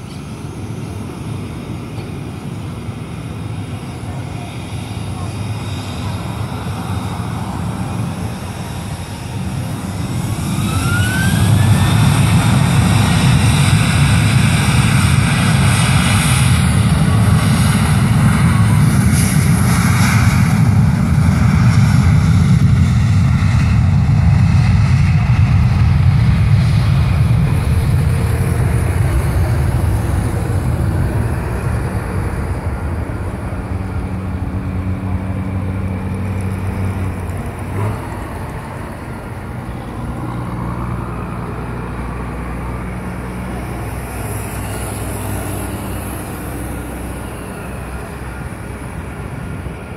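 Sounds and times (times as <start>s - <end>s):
jet engines spooling up: 0.0s - 41.3s
loud steady jet rumble: 0.0s - 49.9s.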